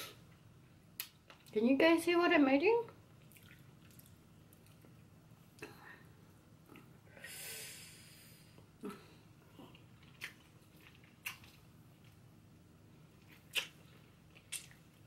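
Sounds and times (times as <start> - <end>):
soft hiss: 2.9 - 15.0.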